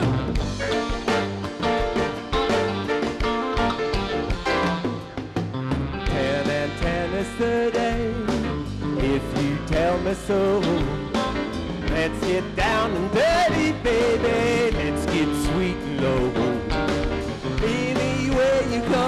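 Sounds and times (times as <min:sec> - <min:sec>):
live band playing samba-rock: 0:00.0 - 0:19.0.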